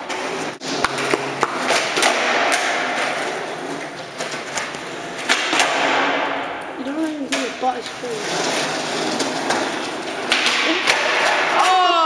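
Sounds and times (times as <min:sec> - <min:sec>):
skateboard clacks: 0:00.0 - 0:12.0
skateboard wheels rolling on concrete: 0:00.0 - 0:12.0.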